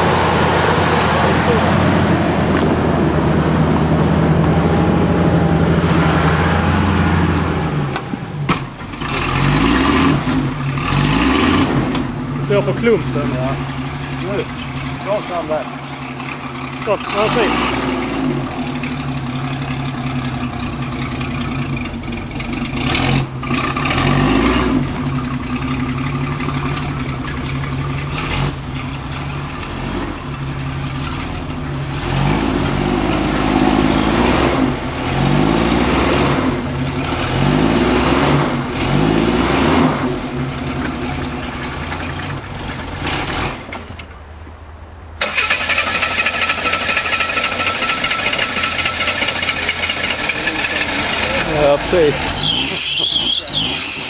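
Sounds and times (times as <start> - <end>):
engine revving under load: 0.0 - 44.1, 45.2 - 54.0.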